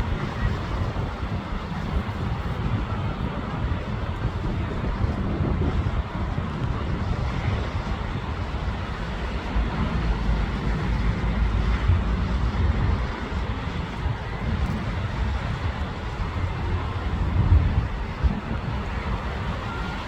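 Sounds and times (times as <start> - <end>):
steady rushing noise: 0.0 - 20.0
wind buffeting microphone: 0.0 - 20.0.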